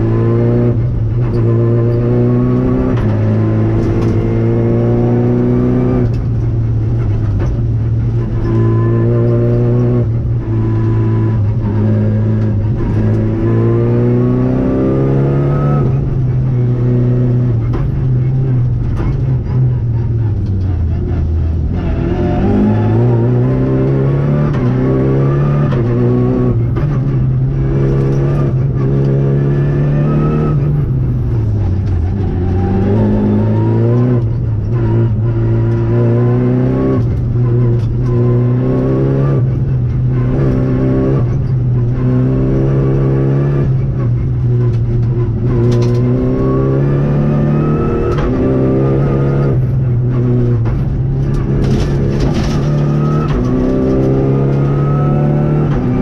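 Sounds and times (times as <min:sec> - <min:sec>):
car engine revving: 0:00.0 - 0:56.0
road and tyre noise: 0:00.0 - 0:56.0.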